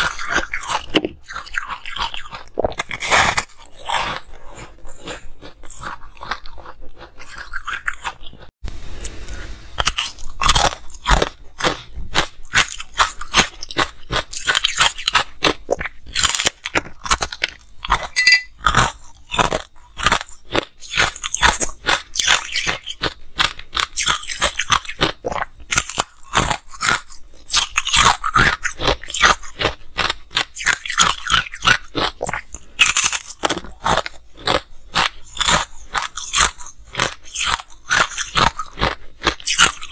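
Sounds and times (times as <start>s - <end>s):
ice being chewed: 0.0s - 8.5s, 9.8s - 39.9s.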